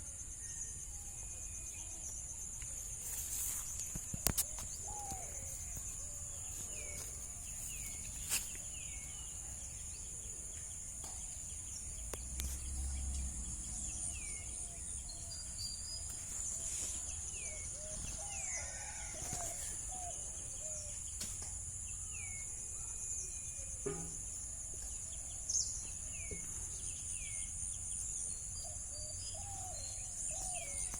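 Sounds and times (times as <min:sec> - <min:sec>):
birds chirping: 0:03.8 - 0:30.9.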